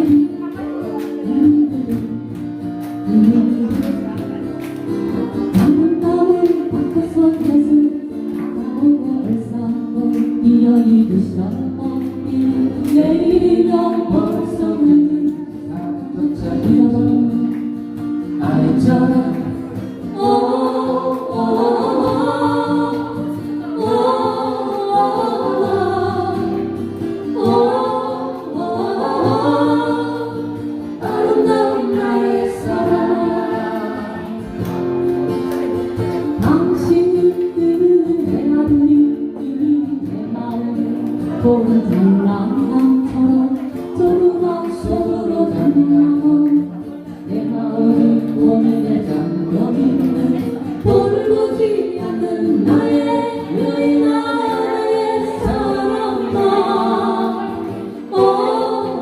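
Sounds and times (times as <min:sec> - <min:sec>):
acoustic guitar: 0:00.0 - 0:59.0
person singing: 0:05.4 - 0:17.5, 0:18.4 - 0:34.6, 0:36.2 - 0:59.0.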